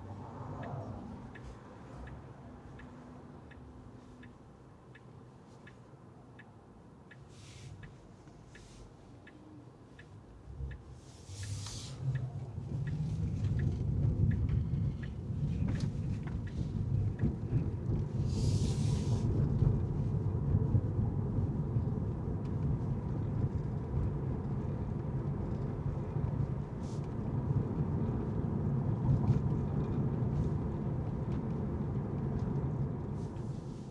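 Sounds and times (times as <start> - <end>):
car engine and tyres rumble: 0.0 - 33.9.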